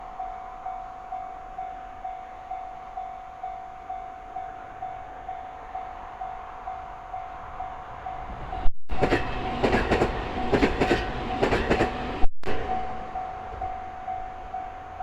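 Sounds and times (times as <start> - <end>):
level-crossing warning bell: 0.0 - 9.7, 12.5 - 15.0.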